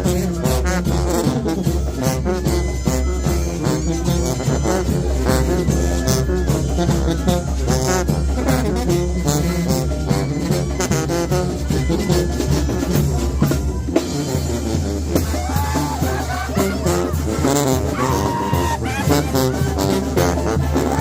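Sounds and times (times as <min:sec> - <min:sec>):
brass horns: 0:00.0 - 0:21.0
drums: 0:00.0 - 0:21.0.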